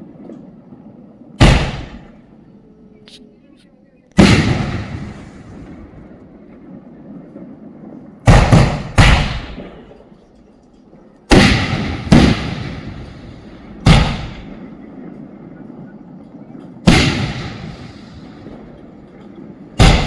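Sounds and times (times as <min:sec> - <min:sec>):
fireworks bangs with echoing rumble: 0:00.0 - 0:02.9, 0:04.2 - 0:20.0.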